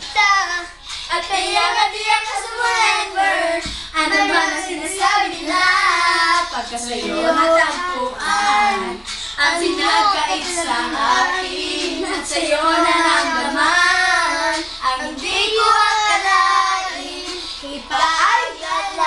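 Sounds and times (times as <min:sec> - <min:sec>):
children singing: 0:00.0 - 0:19.0.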